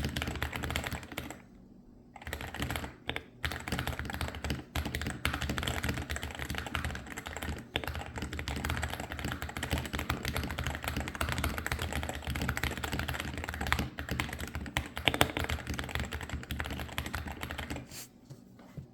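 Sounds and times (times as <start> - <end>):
fast keyboard typing clacks: 0.0 - 1.4, 2.2 - 17.8.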